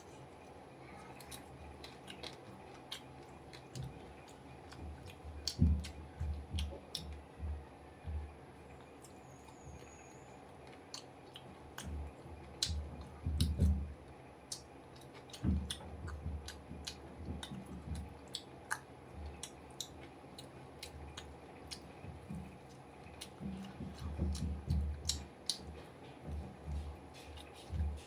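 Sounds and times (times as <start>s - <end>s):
person chewing food: 0.1s - 9.6s, 10.5s - 28.0s.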